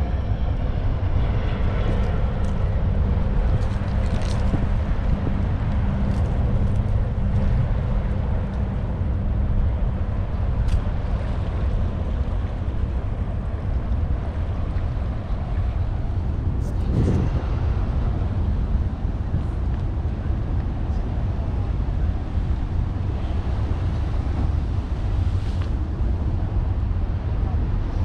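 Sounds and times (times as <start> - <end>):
distant engine drone: 0.0 - 28.0
wind rumble on microphone: 0.0 - 28.0.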